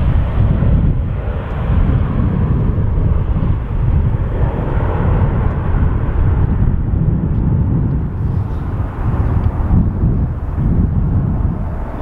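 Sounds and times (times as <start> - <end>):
jet engines at take-off thrust: 0.0 - 12.0.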